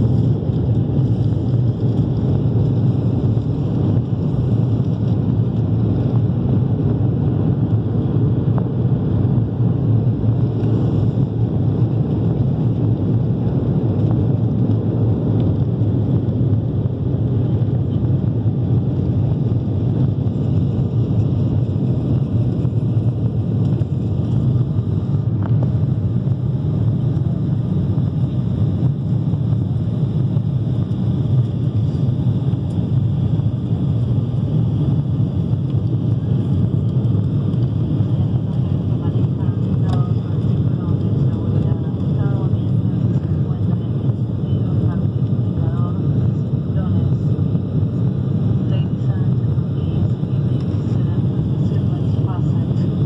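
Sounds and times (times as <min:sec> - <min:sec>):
jet engines at takeoff power: 0:00.0 - 0:53.0.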